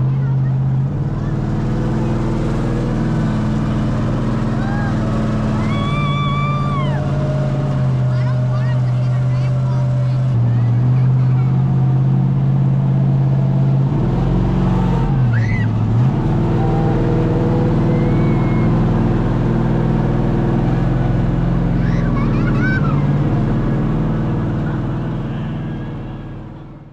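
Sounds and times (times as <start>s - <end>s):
vehicle engine running: 0.0s - 26.9s.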